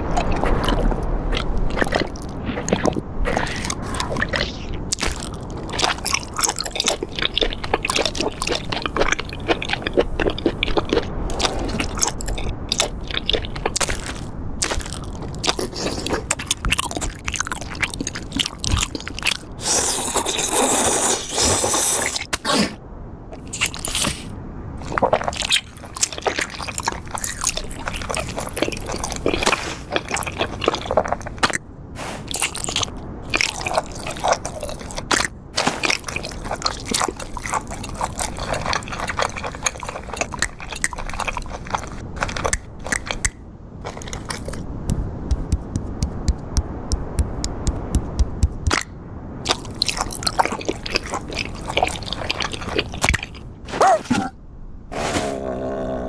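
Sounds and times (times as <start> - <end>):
crackling crunching and scraping: 0.0 - 22.5, 23.4 - 54.3.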